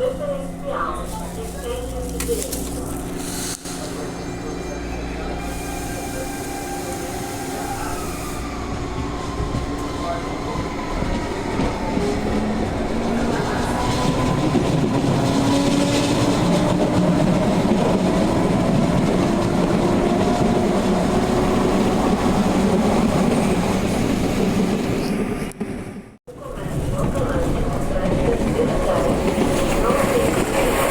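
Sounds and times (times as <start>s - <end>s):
rail running noise: 0.0s - 30.9s.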